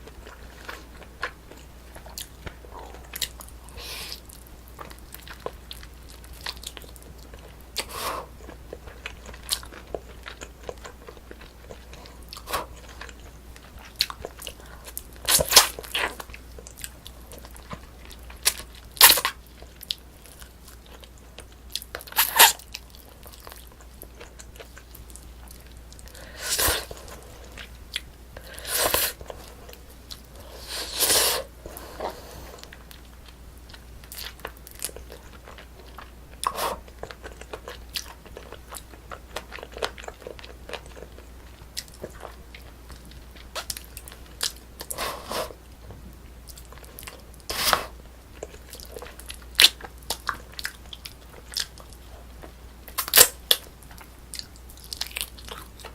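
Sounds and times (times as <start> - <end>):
close chewing and biting: 0.0 - 30.4, 31.8 - 55.9.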